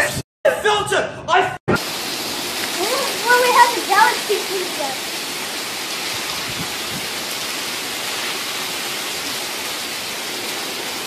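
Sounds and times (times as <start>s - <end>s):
heavy rain pouring: 1.7s - 11.0s.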